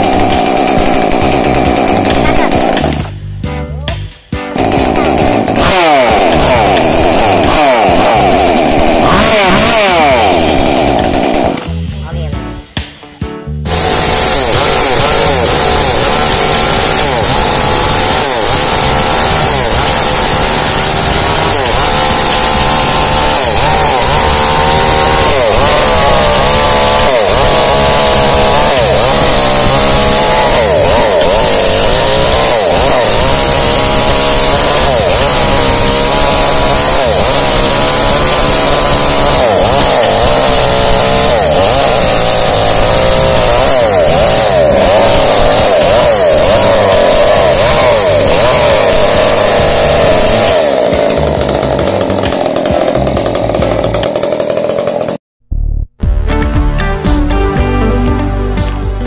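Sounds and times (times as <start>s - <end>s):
chainsaw cutting wood: 0.0s - 13.0s, 13.6s - 55.2s.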